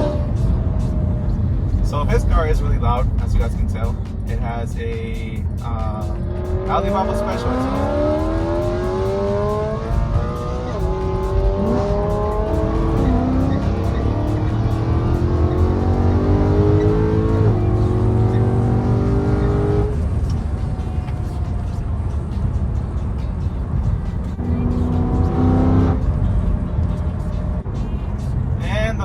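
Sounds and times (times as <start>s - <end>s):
loud car exhaust accelerating: 0.0s - 29.0s
low drive rumble: 0.0s - 29.0s.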